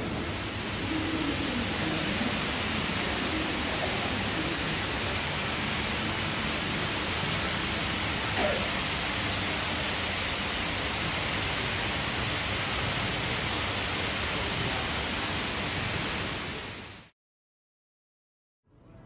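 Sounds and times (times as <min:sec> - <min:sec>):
fountain jets splashing into pool: 0:00.0 - 0:17.0.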